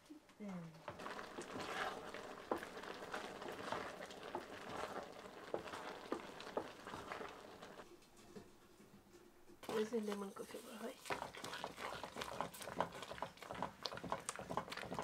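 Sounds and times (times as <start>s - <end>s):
cooking hiss: 0.8s - 7.8s, 9.6s - 15.0s
wooden spoon scraping metal pot: 0.8s - 8.5s, 9.6s - 15.0s.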